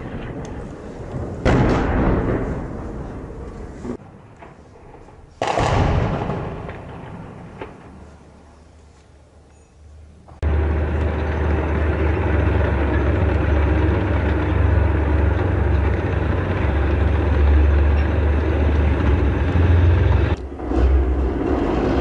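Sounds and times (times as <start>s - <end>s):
tank diesel engine rumbling: 0.0s - 22.0s.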